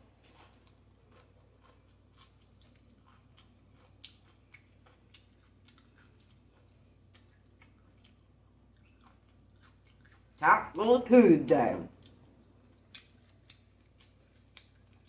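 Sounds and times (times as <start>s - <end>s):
low steady hum: 0.0s - 15.0s
chewing with wet mouth clicks: 0.5s - 10.4s, 11.9s - 15.0s.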